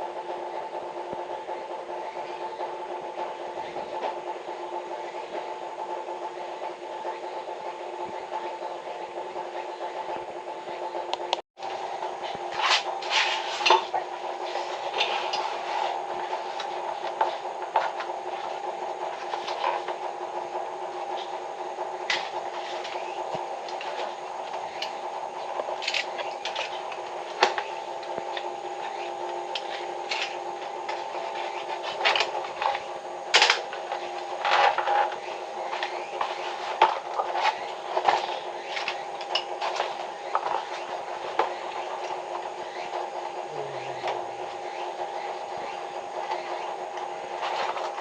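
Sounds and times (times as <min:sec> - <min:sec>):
steady multi-tone hum: 0:00.0 - 0:48.0.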